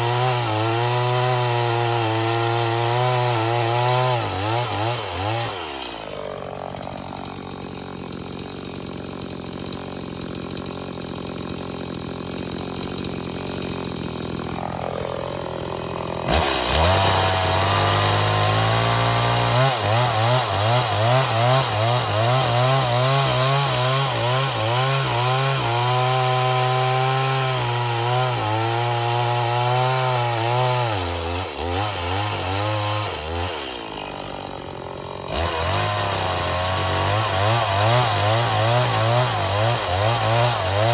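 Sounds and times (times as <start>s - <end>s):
chainsaw cutting wooden log: 0.0s - 40.9s.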